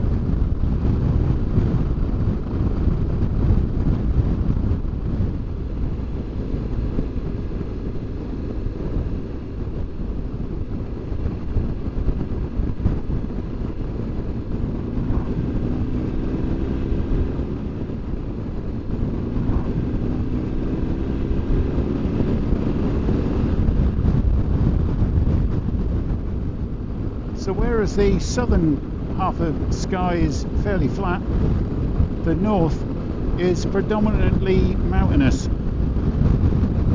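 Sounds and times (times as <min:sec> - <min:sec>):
motorcycle engine running: 0:00.0 - 0:36.9
wind rumble on microphone: 0:00.0 - 0:36.9.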